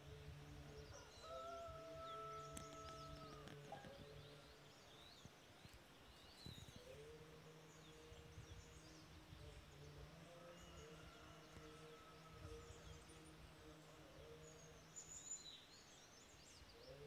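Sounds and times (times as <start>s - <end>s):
faint low drone: 0.0s - 17.0s
small birds chirping: 0.0s - 17.0s.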